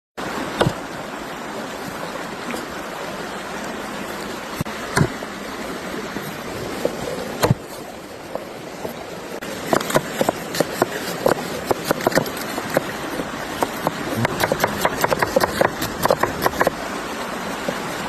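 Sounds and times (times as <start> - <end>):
stream rushing: 0.2 - 18.0.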